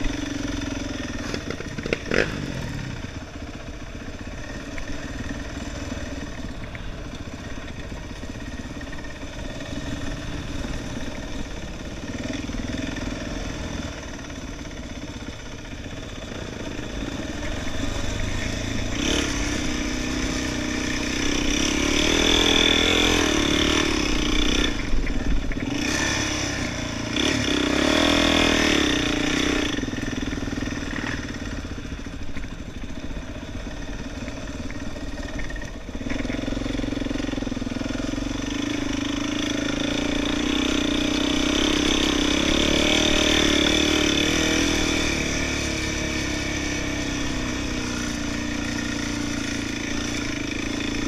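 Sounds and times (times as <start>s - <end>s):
quad bike engine revving: 0.0s - 51.0s.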